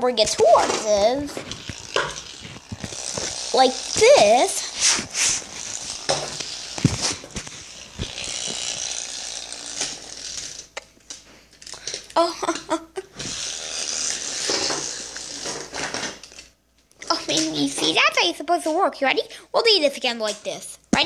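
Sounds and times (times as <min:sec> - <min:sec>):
spinning top whirring: 0:00.2 - 0:18.3.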